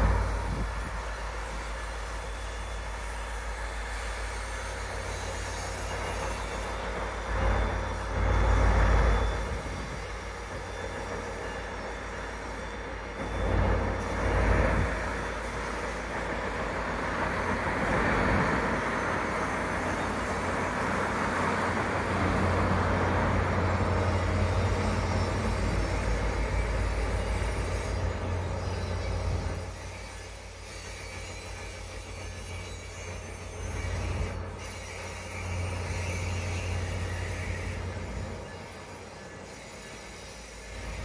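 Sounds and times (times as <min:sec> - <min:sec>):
diesel locomotive engine running: 0:00.0 - 0:41.0
train wheels rolling on rails: 0:00.0 - 0:41.0.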